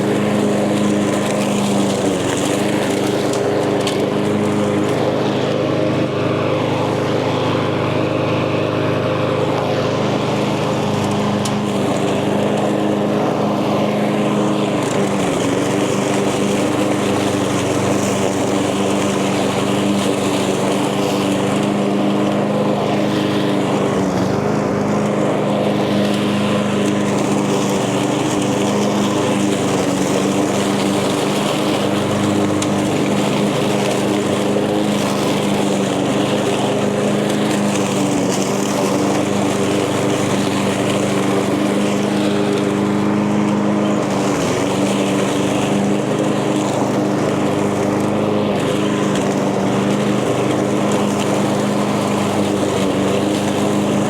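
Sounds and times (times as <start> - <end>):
lawn mower cutting grass: 0.0 - 54.0.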